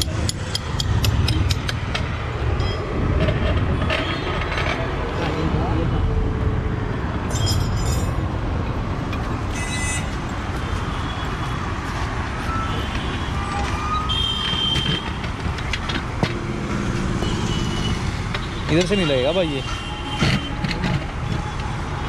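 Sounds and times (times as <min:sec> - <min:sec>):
motor vehicles rumbling: 0:00.0 - 0:22.0.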